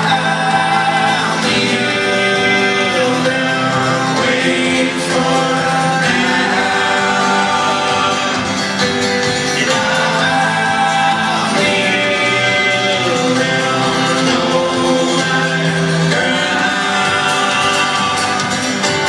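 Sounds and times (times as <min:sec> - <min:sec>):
acoustic guitar: 0:00.0 - 0:19.0
man singing: 0:00.0 - 0:19.0.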